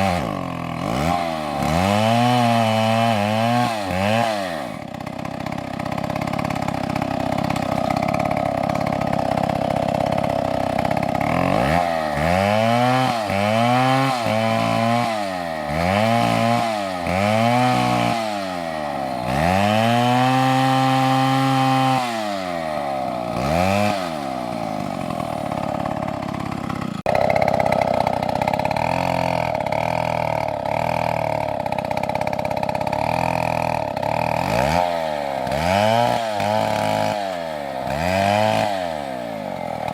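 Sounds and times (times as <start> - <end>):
chainsaw running and cutting: 0.0 - 39.9.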